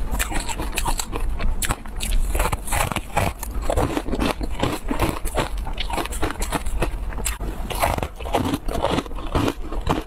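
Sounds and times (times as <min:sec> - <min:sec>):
chewing crumbly cake: 0:00.0 - 0:10.0.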